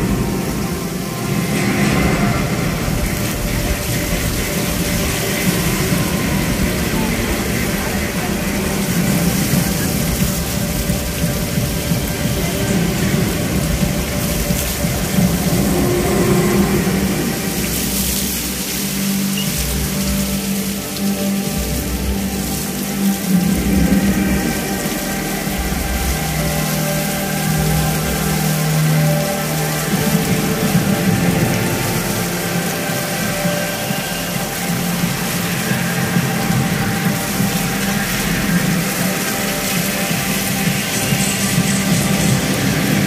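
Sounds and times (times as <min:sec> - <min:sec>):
fountain water jets rushing: 0:00.0 - 0:43.0
low rumble: 0:00.0 - 0:43.0
murmur of crowd voices: 0:00.0 - 0:43.0.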